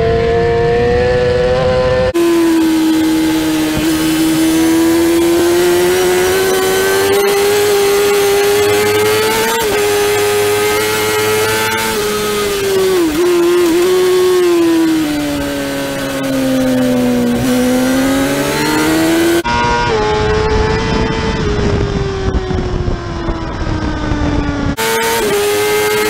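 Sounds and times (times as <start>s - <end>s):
wind rush: 0.0s - 25.4s
motorcycle engine at high revs: 0.0s - 26.0s.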